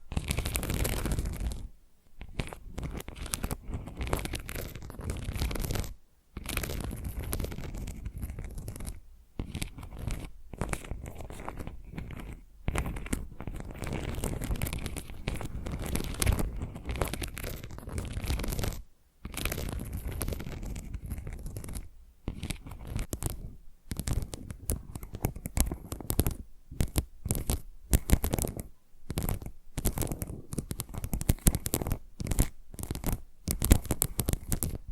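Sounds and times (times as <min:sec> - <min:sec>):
fingernails scratching and tapping: 0:00.1 - 0:34.9.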